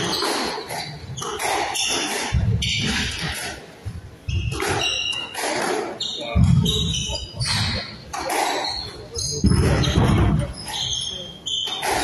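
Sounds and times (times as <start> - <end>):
shoes squeaking on wooden floor: 0.0 - 12.0.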